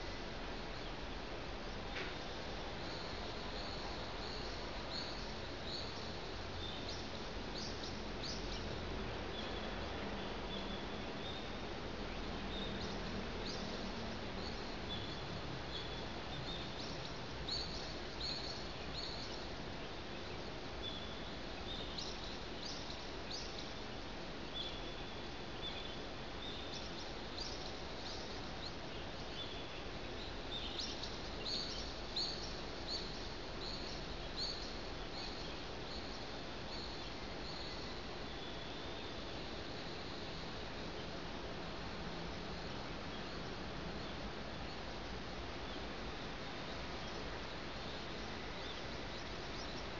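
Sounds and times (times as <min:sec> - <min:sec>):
low background hiss: 0:00.0 - 0:49.9.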